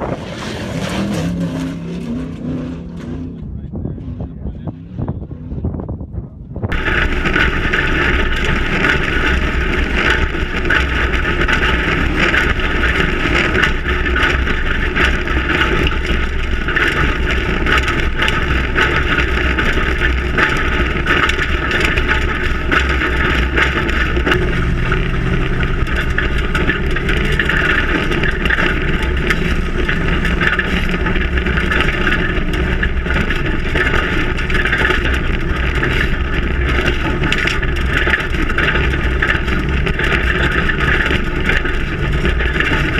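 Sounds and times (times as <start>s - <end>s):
road and wind noise: 0.0s - 42.9s
truck engine running: 0.0s - 42.9s.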